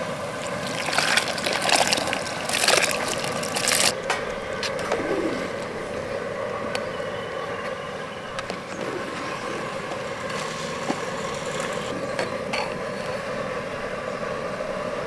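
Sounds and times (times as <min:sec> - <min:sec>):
water boiling and bubbling: 0:00.0 - 0:15.0.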